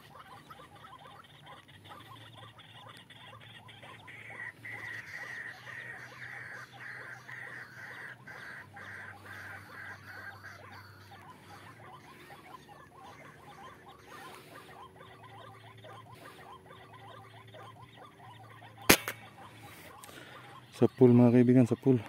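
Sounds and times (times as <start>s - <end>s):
bird calling rough notes: 0.0s - 21.0s.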